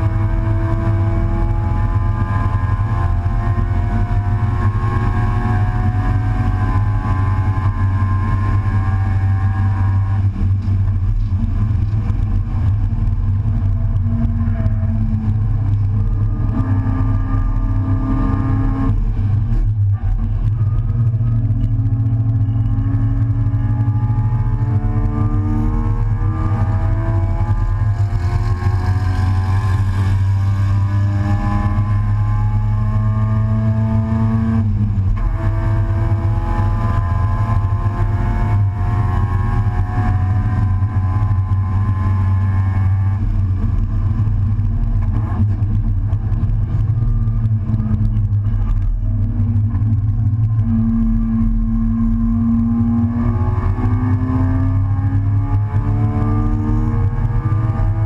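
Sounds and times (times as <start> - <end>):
race car engine: 0.0 - 58.0
wind rumble: 0.0 - 58.0.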